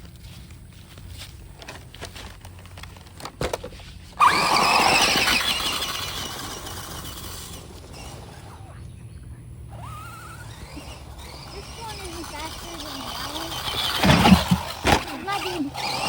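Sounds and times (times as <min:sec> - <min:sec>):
remote control car motor whining: 0:00.8 - 0:16.0.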